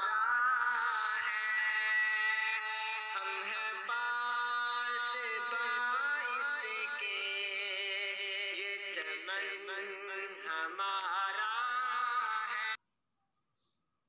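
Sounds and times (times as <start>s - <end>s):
chanted ornamented vocal melody: 0.0s - 12.8s.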